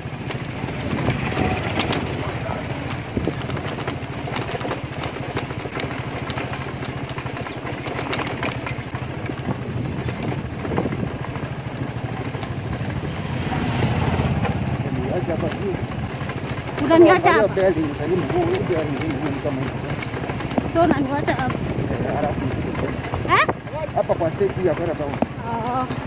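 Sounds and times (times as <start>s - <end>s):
knocks and rattles from bumps: 0.0s - 26.0s
motorcycle engine running: 0.0s - 26.0s.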